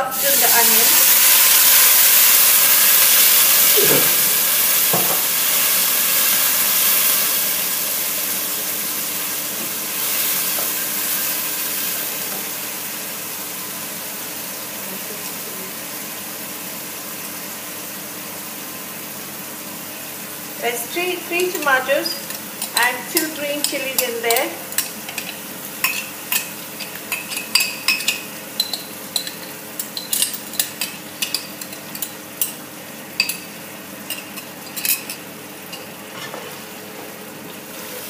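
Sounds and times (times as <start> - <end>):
water sizzling in hot oil: 0.0 - 38.0.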